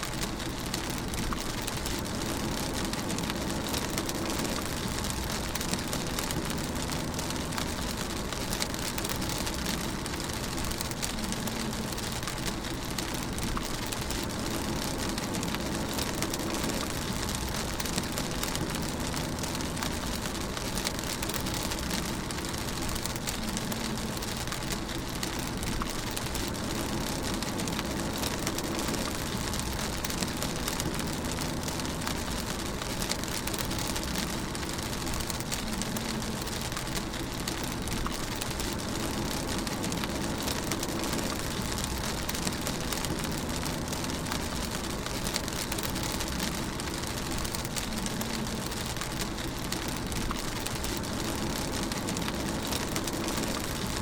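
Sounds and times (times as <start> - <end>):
rain pattering on car: 0.0 - 54.0
engine and tyres hum: 0.1 - 54.0.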